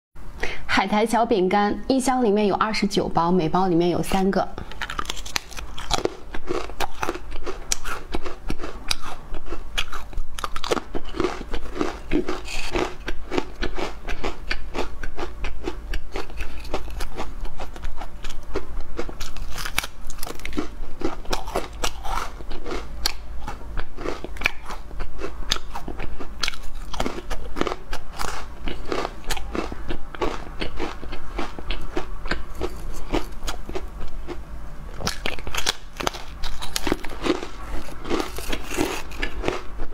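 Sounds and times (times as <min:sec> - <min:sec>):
crackers crunching while chewed: 0:04.6 - 0:34.4, 0:35.0 - 0:39.9.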